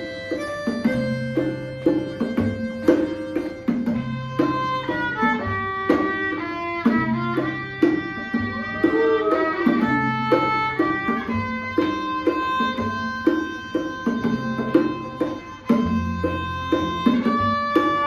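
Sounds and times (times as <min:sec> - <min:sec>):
held melody line: 0:00.0 - 0:18.0
live band playing: 0:00.0 - 0:18.0
strummed beat: 0:00.0 - 0:18.0.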